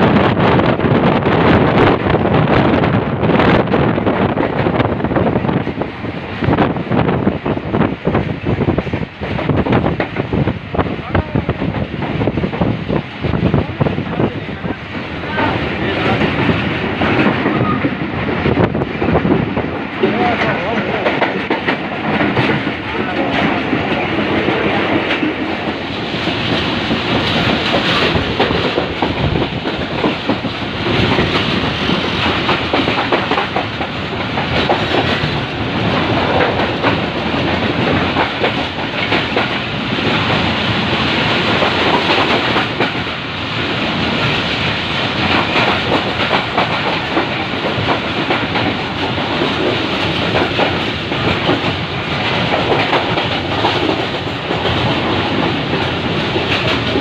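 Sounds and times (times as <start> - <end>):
train wheels on track: 0.0 - 57.0.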